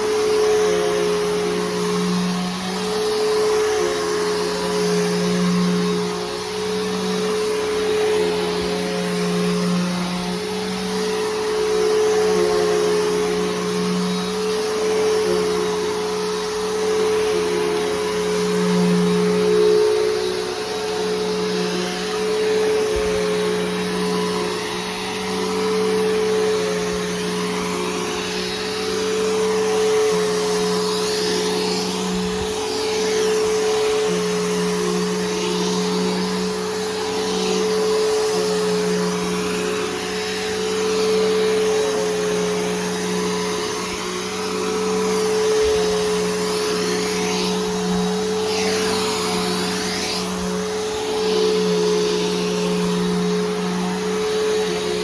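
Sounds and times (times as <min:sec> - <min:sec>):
upright vacuum running: 0:00.0 - 0:55.0.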